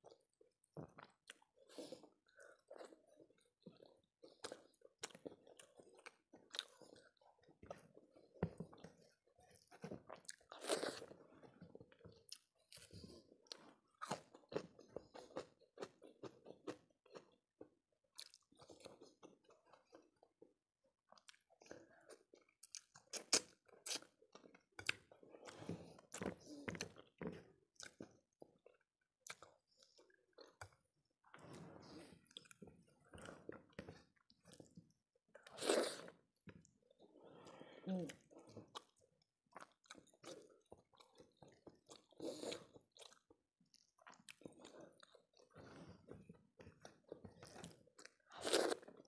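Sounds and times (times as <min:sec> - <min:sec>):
person chewing crunchy food: 0:00.0 - 0:20.5, 0:21.1 - 0:49.0.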